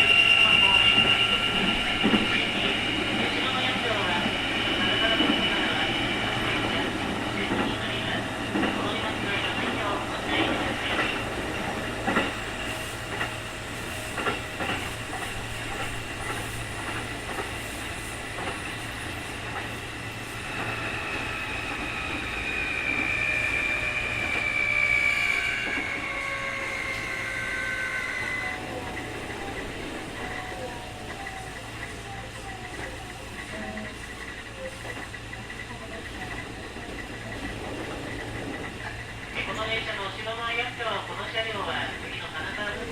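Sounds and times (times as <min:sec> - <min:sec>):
electric train high whine: 0:00.0 - 0:42.9.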